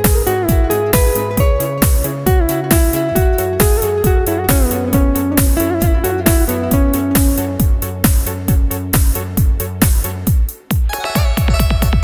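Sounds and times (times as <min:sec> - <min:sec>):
upbeat electronic music: 0:00.0 - 0:12.0.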